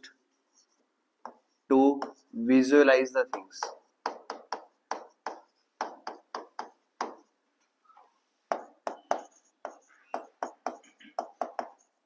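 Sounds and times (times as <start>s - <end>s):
pen tapping and scratching on screen: 0.0s - 2.4s, 3.2s - 12.0s.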